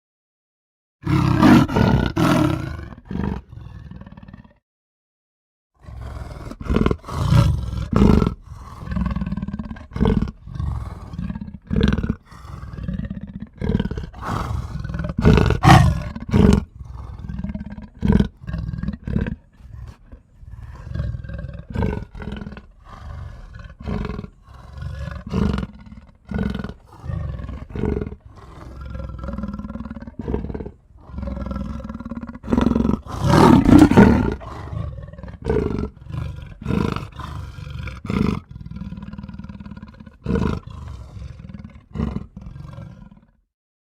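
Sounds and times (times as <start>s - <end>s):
big cat roaring and growling: 1.0s - 4.6s, 5.8s - 43.4s.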